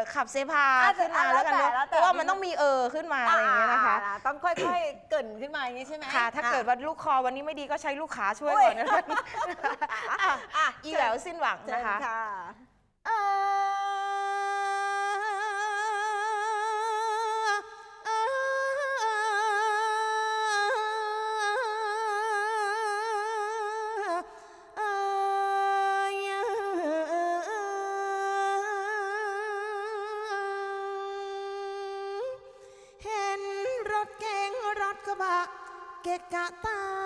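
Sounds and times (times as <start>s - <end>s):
woman singing unaccompanied: 0.0s - 11.8s, 13.1s - 32.4s, 33.0s - 37.0s.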